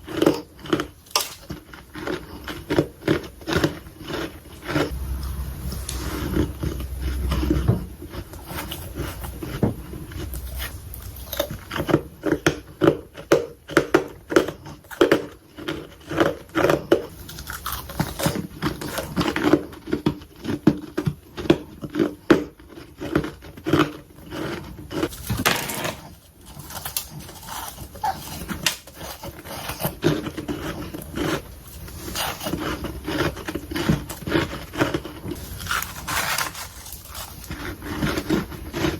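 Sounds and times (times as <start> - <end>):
frost being chewed crunchily: 0.0 - 38.9.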